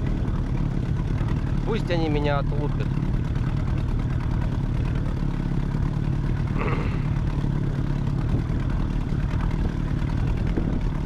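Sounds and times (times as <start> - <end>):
outboard motor droning: 0.0 - 11.0.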